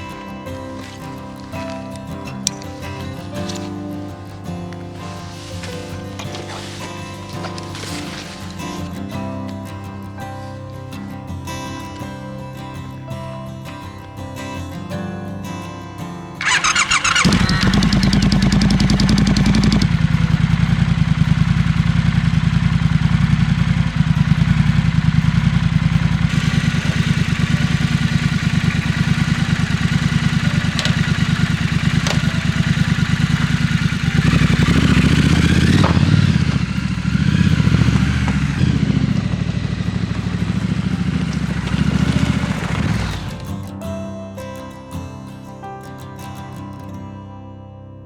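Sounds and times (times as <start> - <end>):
motorcycle engine running: 0.0 - 11.1, 16.4 - 43.8.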